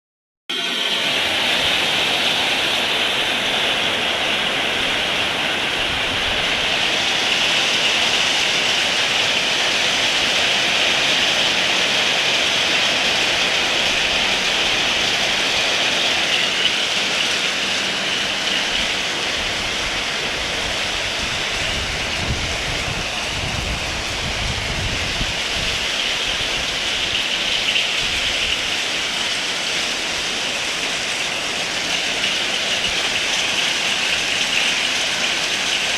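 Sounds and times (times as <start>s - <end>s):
heavy rain falling: 0.5s - 35.9s.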